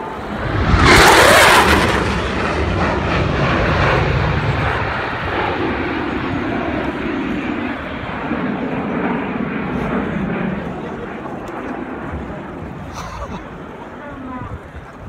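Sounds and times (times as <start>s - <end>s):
fighter jet engine roar: 0.0s - 15.0s.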